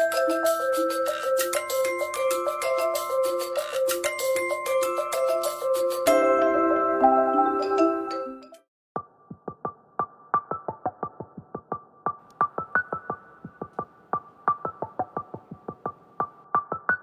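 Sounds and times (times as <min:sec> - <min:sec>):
clipped keyboard notes music: 0:00.0 - 0:17.0.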